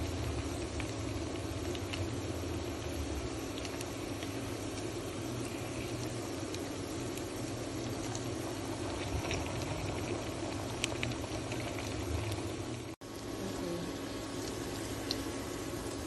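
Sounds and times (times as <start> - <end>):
patties sizzling in hot oil: 0.0 - 16.0.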